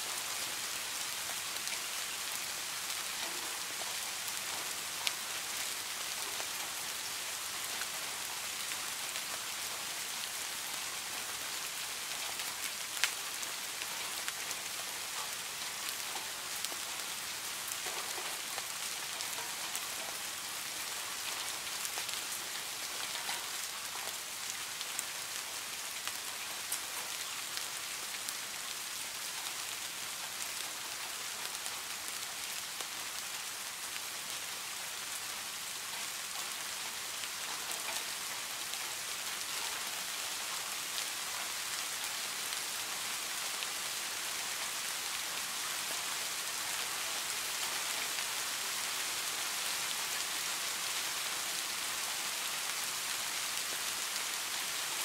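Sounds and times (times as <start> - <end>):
rain falling on pond water: 0.0 - 55.0.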